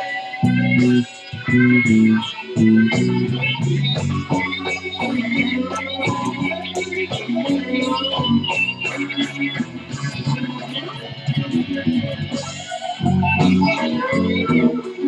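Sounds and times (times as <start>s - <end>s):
bass guitar: 0.0s - 15.0s
electric blues guitars: 0.0s - 15.0s.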